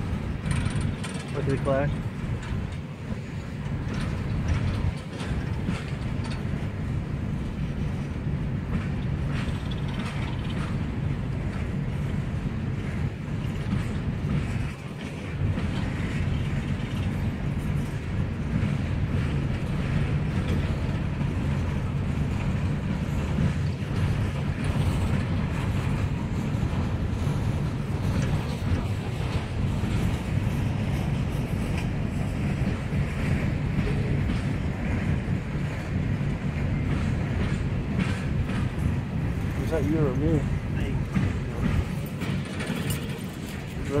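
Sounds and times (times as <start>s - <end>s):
wheels clicking and clacking: 0.0s - 6.8s, 8.7s - 12.0s, 12.8s - 44.0s
train wheels rumbling on rail: 0.0s - 44.0s.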